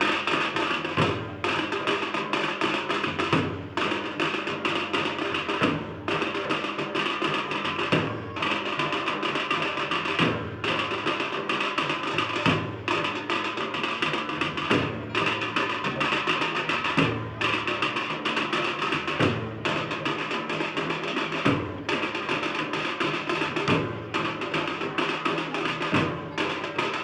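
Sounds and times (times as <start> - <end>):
drums beaten in fast rhythm: 0.0 - 27.0.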